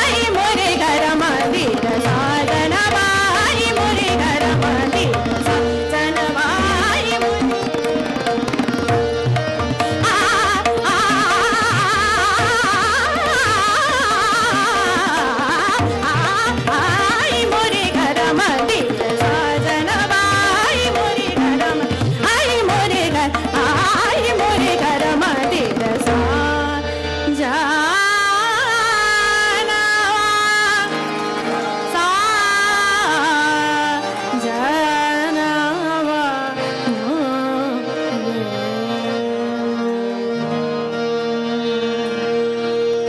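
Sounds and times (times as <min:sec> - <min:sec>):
harmonium: 0:00.0 - 0:43.0
tabla playing: 0:00.0 - 0:43.0
tanpura drone: 0:00.0 - 0:43.0.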